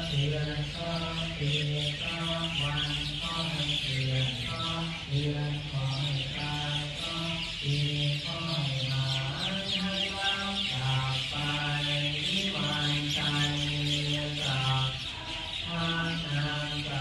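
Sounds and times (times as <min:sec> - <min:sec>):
low voices chanting: 0:00.0 - 0:17.0
many birds chirping: 0:00.0 - 0:17.0.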